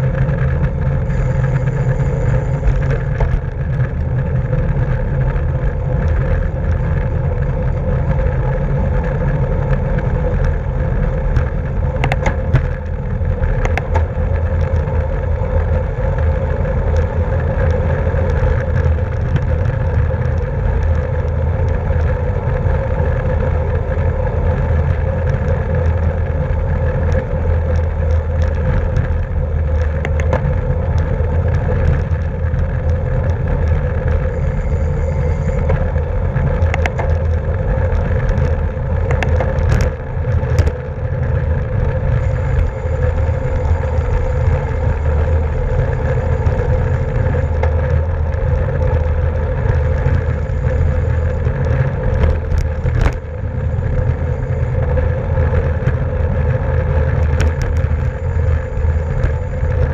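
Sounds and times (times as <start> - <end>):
tyre and drivetrain noise: 0.0 - 59.9
wind rumble on microphone: 0.0 - 59.9.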